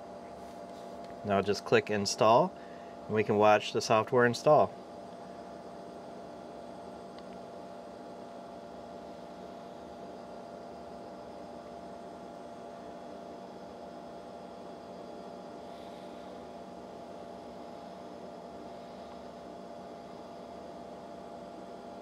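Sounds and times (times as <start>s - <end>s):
steady hum with fixed tones: 0.0s - 22.0s.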